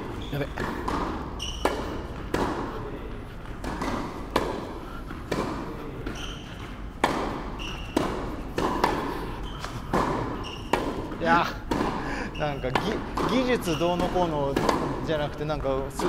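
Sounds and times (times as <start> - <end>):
tennis balls struck by rackets: 0.0 - 12.1, 12.7 - 16.0.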